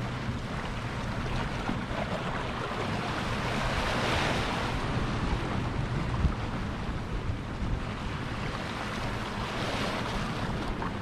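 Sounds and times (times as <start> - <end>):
waves breaking against rocks: 0.0 - 11.0
wind rumbling on microphone: 0.0 - 11.0.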